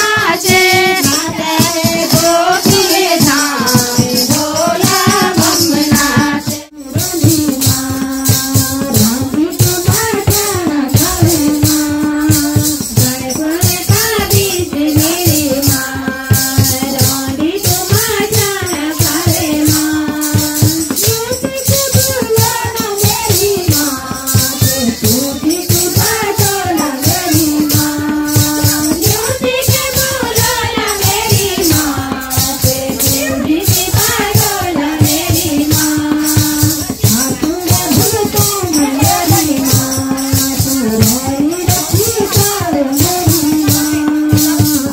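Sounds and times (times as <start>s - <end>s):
devotional singing: 0.0s - 44.9s
fast percussion beat: 0.0s - 44.9s
shaking jingle: 0.0s - 44.9s.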